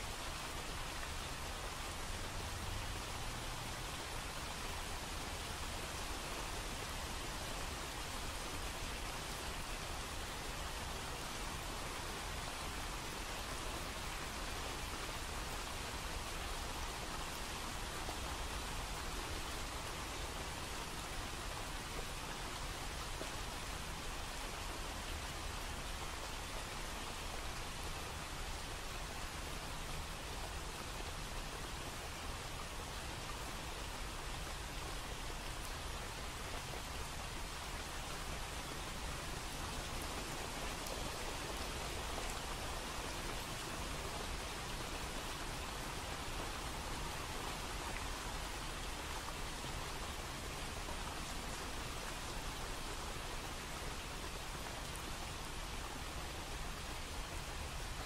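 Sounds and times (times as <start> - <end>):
rushing water hiss: 0.0 - 58.0.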